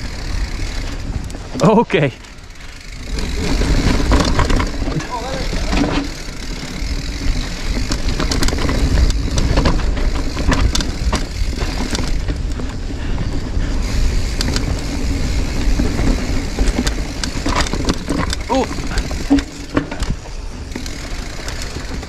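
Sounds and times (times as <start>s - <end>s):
bike tyres and frame rattling: 0.0s - 22.0s
wind rumble on microphone: 2.8s - 22.0s.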